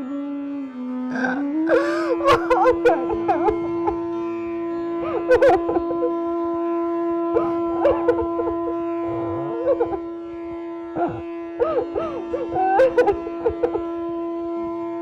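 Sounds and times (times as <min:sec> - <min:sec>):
music with held drone: 0:00.0 - 0:15.0
wailing gliding notes: 0:00.0 - 0:15.0.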